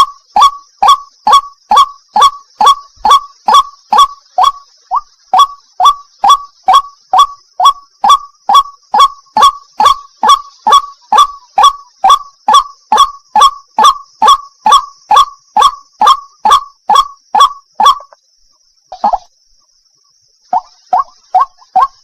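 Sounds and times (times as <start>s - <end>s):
bird harsh repeated call: 0.0s - 19.4s, 20.4s - 22.0s
faint steady hiss: 0.0s - 22.0s.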